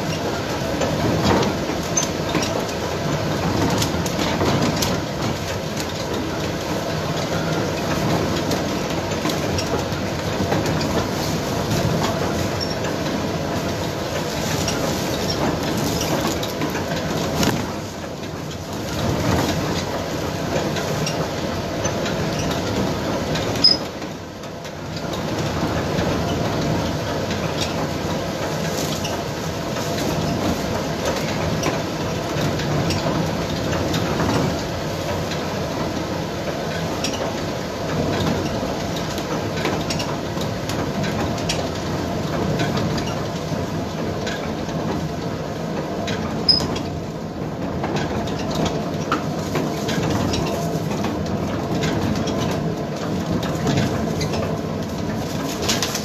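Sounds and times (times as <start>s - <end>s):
windmill millstones grinding grain: 0.0s - 56.0s.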